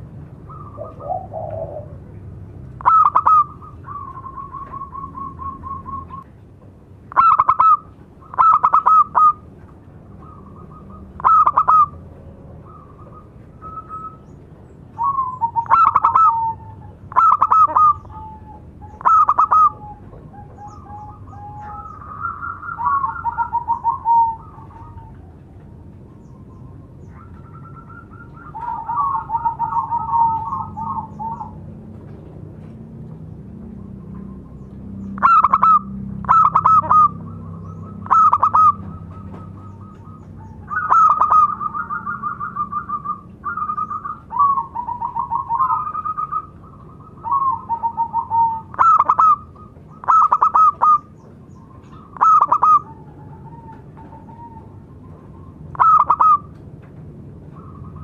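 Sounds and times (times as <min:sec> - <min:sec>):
dove cooing: 0:00.0 - 0:06.2, 0:07.1 - 0:32.7, 0:33.7 - 0:56.6.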